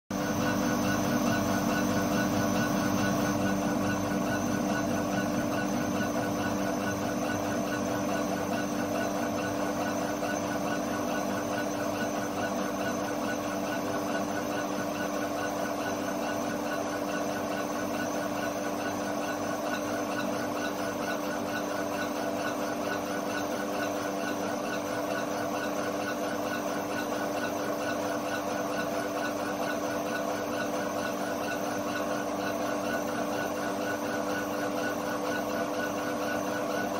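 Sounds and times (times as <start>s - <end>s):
steady machine hum: 0.1s - 36.9s.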